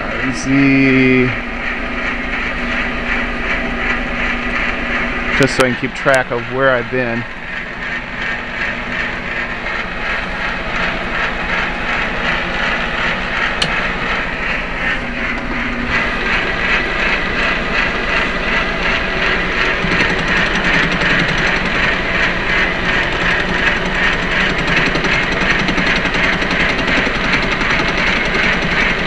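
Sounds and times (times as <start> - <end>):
metal lathe whirring: 0.0 - 29.0.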